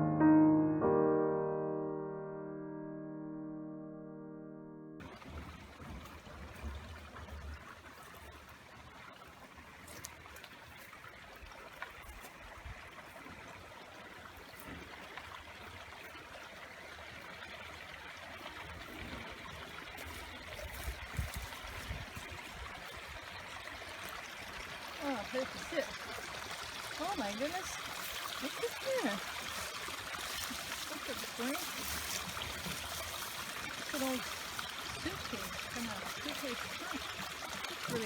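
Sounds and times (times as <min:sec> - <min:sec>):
stream trickling: 0:05.0 - 0:38.0.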